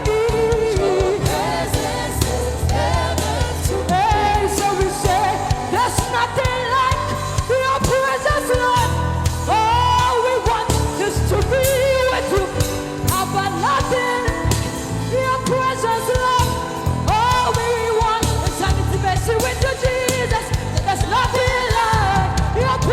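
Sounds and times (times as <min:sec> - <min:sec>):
bass: 0:00.0 - 0:22.9
person singing with vibrato: 0:00.0 - 0:22.9
steady drum beat: 0:00.0 - 0:22.9.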